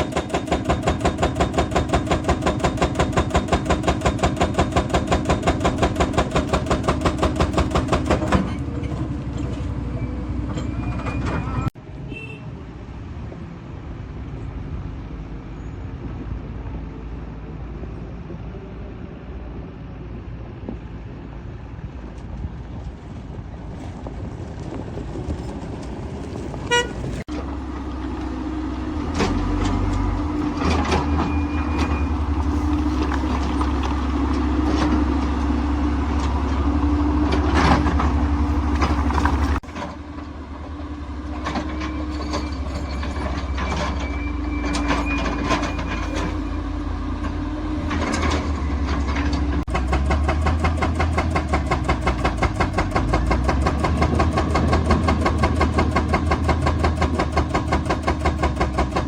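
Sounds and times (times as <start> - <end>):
construction machinery engine drone: 0.0 - 59.0.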